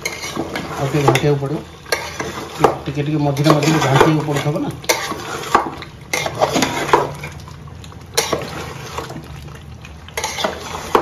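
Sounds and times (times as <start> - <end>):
spatula stirring thick curry: 0.0 - 7.4, 8.0 - 11.0.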